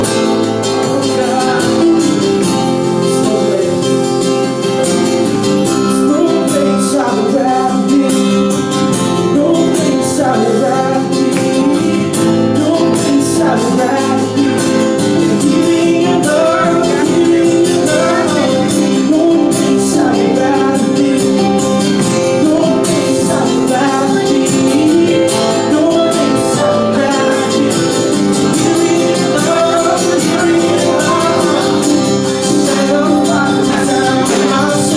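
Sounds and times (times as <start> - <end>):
worship singing with band: 0.0 - 34.9.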